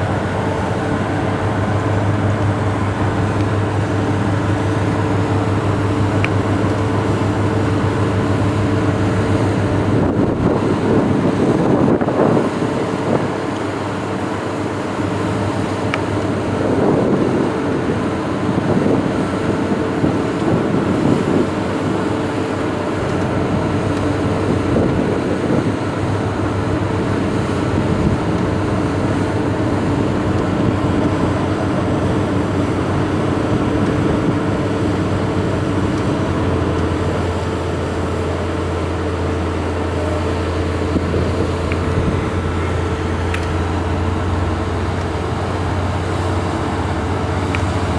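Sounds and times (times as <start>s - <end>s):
boat engine humming: 0.0s - 47.9s.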